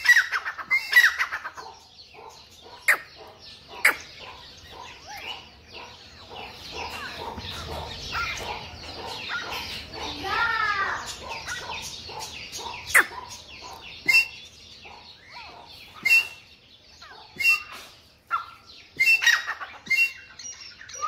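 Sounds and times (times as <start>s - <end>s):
birds calling sharply: 0.0s - 21.0s
faint bird chirps: 0.0s - 21.0s.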